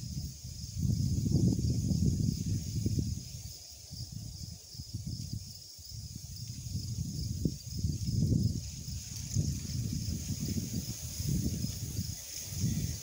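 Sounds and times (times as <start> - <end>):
steady high hiss: 0.0 - 13.0
wind buffeting the microphone: 0.0 - 13.0.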